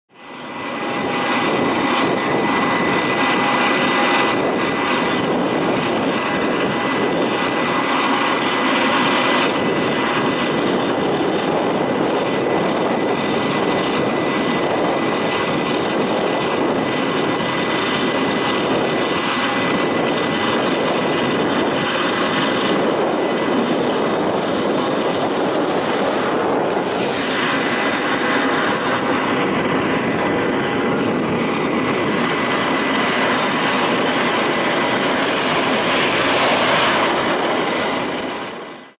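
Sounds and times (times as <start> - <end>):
jet engine rush: 0.1 - 38.9.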